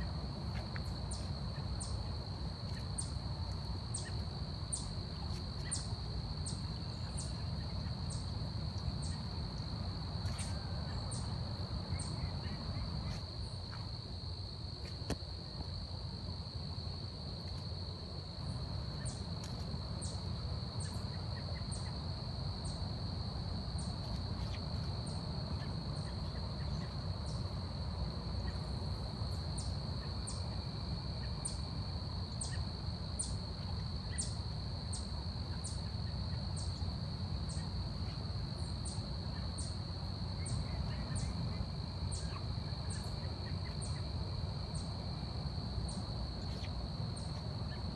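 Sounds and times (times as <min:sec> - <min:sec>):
droning insect chorus: 0:00.0 - 0:47.9.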